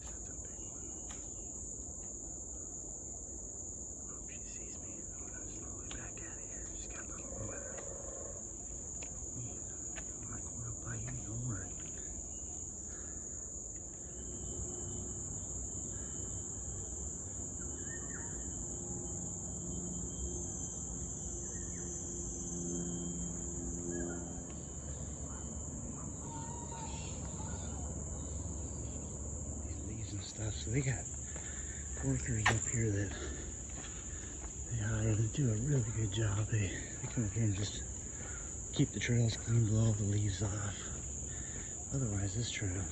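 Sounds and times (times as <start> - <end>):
faint low hum: 0.0 - 42.9
insects droning: 0.0 - 42.9.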